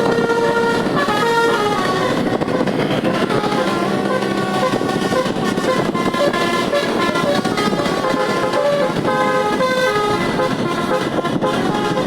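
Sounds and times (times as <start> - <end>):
musical air horn melody: 0.0 - 12.0.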